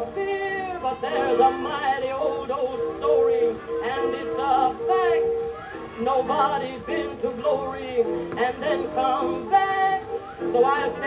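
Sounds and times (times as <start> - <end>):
old record of band playing song: 0.0 - 11.0.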